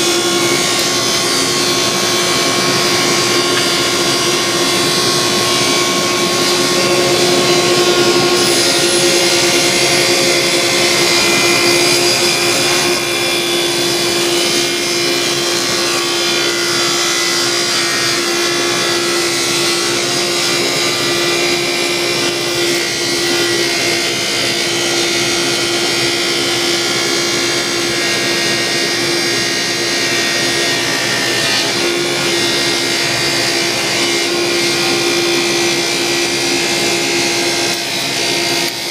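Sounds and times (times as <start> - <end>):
table saw ripping wood: 0.0 - 38.9.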